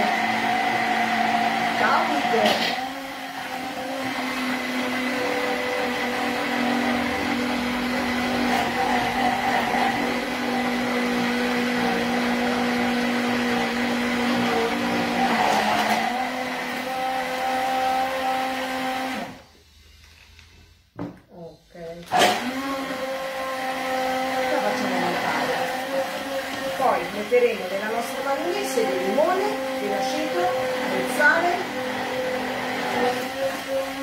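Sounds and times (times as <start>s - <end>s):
immersion blender motor whine: 0.0s - 19.6s, 22.0s - 34.0s.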